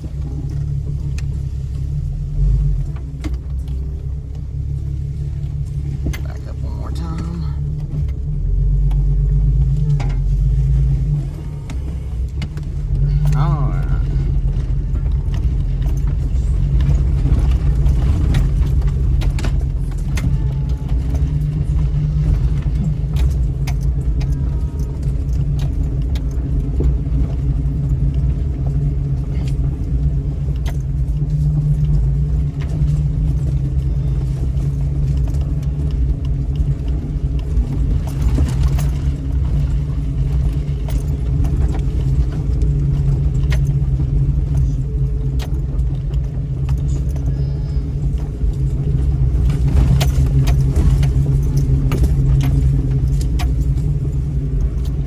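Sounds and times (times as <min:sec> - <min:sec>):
engine and drivetrain drone: 0:00.0 - 0:55.0
rattles and clicks from vehicle body: 0:00.0 - 0:55.0.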